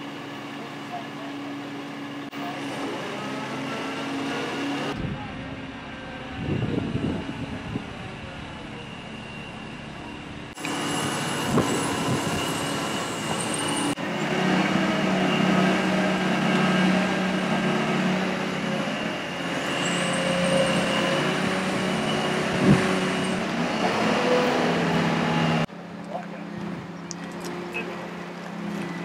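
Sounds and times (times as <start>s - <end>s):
crane engine and hydraulics running: 0.0s - 29.0s.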